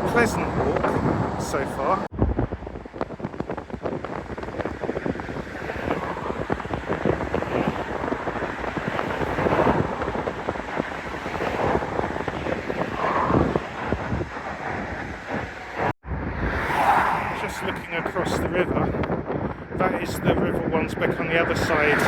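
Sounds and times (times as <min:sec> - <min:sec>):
traffic passing on road: 0:00.0 - 0:20.1, 0:21.0 - 0:22.0
wind buffeting microphone: 0:00.0 - 0:22.0.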